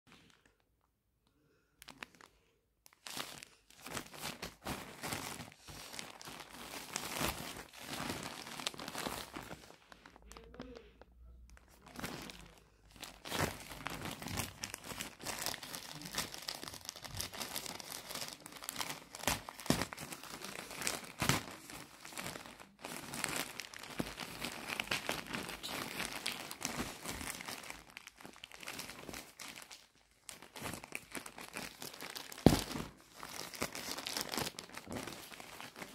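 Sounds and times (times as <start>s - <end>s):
plastic bag crinkling and tearing: 1.6s - 35.9s.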